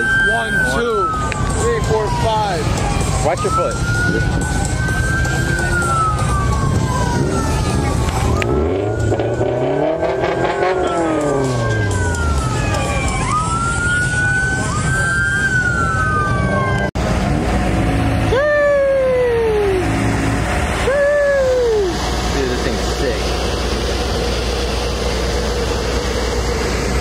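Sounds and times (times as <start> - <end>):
police siren wailing: 0.0 - 17.1, 18.1 - 23.2
car engines rumbling: 0.0 - 27.0
car engine revving: 2.2 - 14.8, 16.1 - 27.0.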